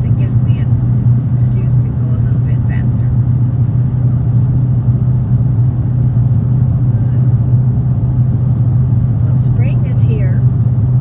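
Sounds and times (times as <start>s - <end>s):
car engine cruising drone: 0.0s - 11.0s.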